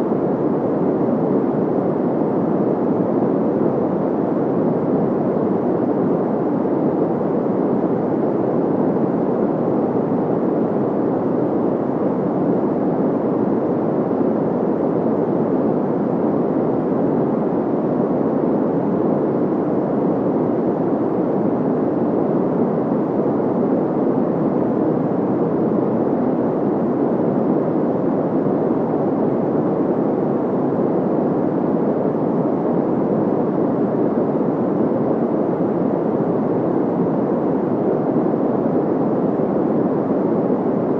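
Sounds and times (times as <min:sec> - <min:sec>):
muffled white noise hiss: 0:00.0 - 0:40.9.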